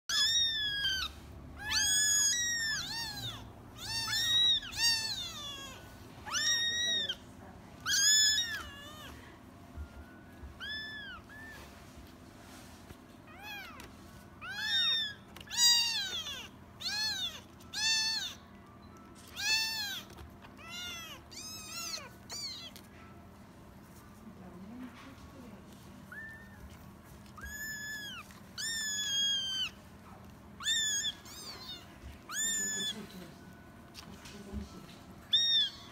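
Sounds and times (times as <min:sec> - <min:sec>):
kittens mewing: 0:00.1 - 0:09.5, 0:10.4 - 0:11.8, 0:13.3 - 0:18.5, 0:19.2 - 0:22.9, 0:26.1 - 0:33.3, 0:34.0 - 0:35.9.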